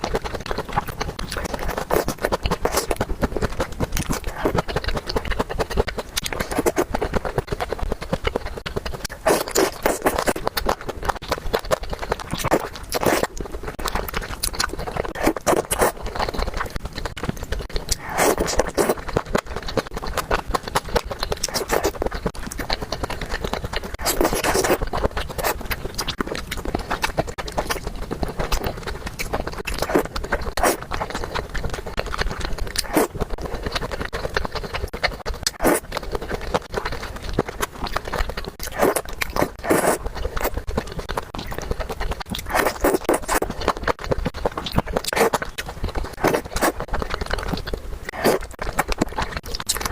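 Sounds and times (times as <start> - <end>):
chewing and smacking: 0.0 - 49.9.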